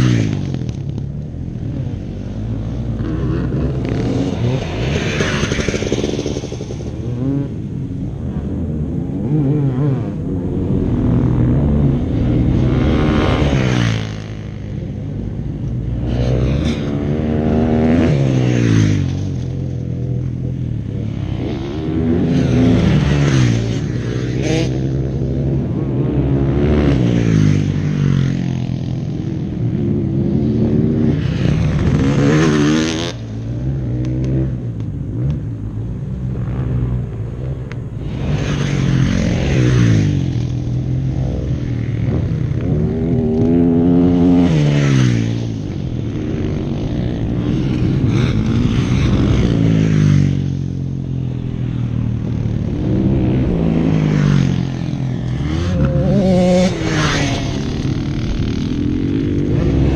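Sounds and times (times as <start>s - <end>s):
dirt bike engines revving past: 0.0s - 59.9s.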